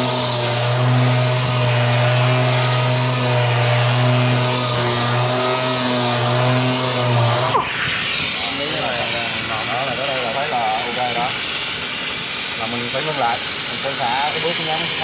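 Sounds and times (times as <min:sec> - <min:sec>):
orbital sander running: 0:00.0 - 0:15.0.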